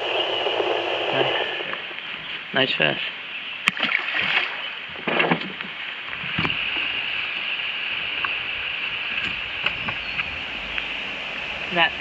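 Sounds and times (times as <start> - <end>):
rain falling on water: 1.9 - 12.0.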